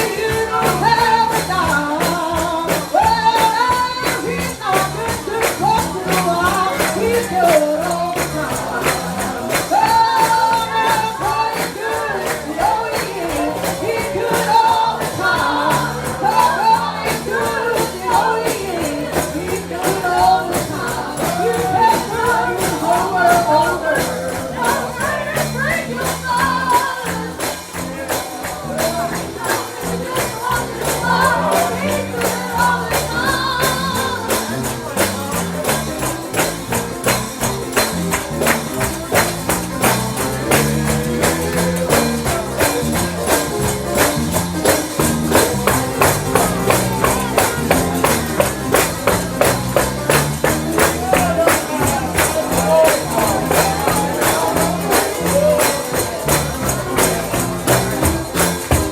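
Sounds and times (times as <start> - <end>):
gospel singing: 0.0 - 58.9
tambourine beat: 0.0 - 58.9.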